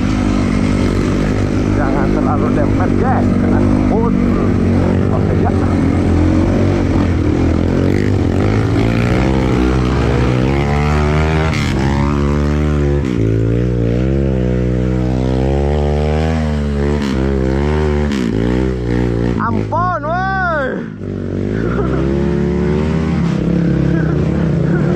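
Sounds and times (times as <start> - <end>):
motorcycle engine revving hard: 0.0 - 24.9.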